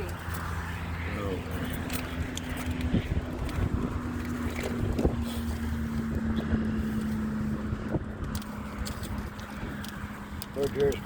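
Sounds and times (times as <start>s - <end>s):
motorboat engine humming: 0.0s - 11.0s
wind on microphone: 0.8s - 10.5s.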